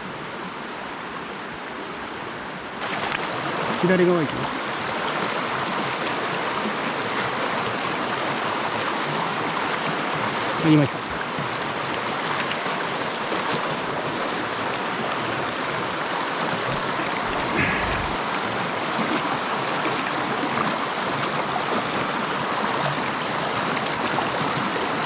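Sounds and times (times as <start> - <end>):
water rushing over rocks: 2.8 - 25.0.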